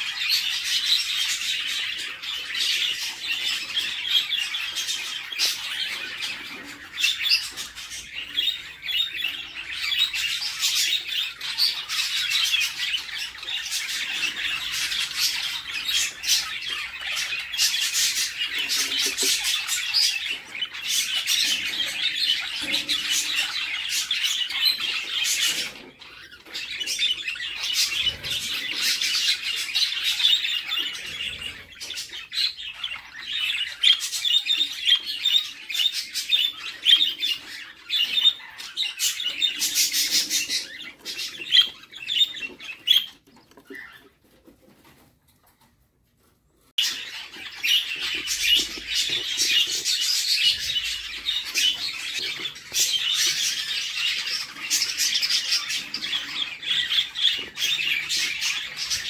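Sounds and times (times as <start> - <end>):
bird chicks chirping and squawking: 0.0 - 59.0.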